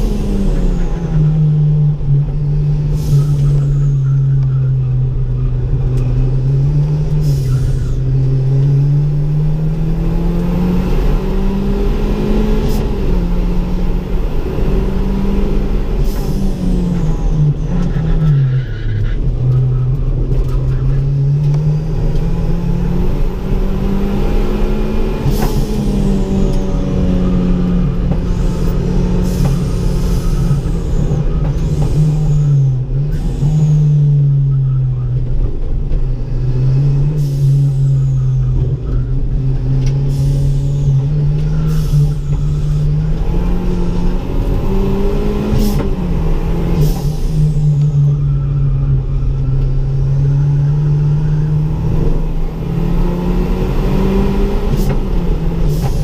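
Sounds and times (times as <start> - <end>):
turbocharged car engine: 0.0 - 56.0.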